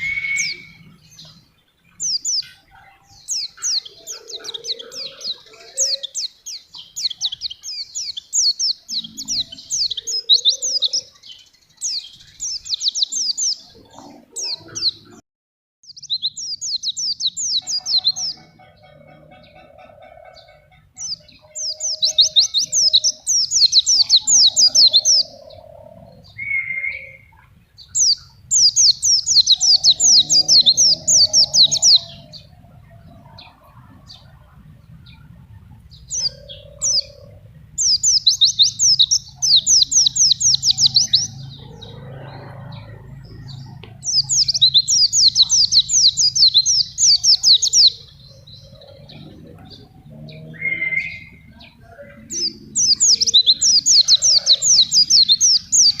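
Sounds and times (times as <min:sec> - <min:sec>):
bird singing sweeping notes: 0:00.0 - 0:15.2, 0:15.8 - 0:56.0.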